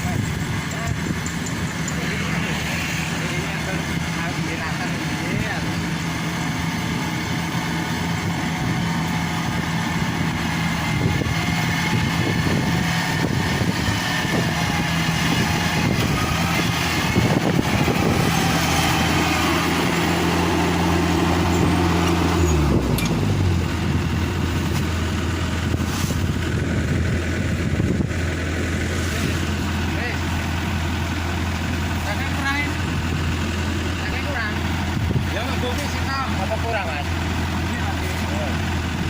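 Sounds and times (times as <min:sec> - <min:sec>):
diesel engine running: 0:00.0 - 0:39.0
harvesting machinery clatter: 0:00.0 - 0:39.0.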